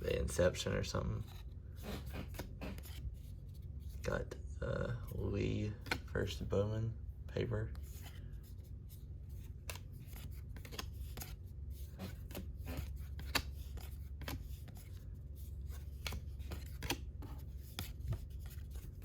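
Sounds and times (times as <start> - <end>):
low steady hum: 0.0 - 19.0
cards being flipped: 1.2 - 4.1, 5.1 - 6.4, 7.7 - 19.0.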